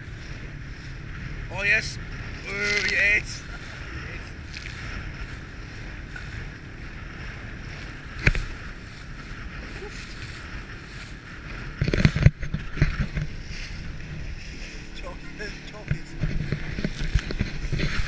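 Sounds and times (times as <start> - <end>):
boat motor: 0.0 - 18.0
hull slamming waves: 0.0 - 18.0
rush of water: 0.0 - 18.0
wind: 0.0 - 18.0.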